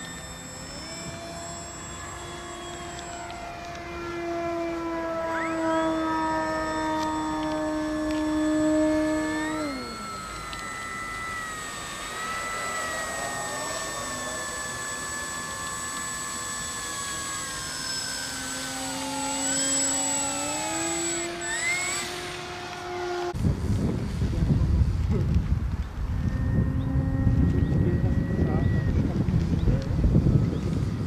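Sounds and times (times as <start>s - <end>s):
model plane motor whine: 0.0s - 31.0s.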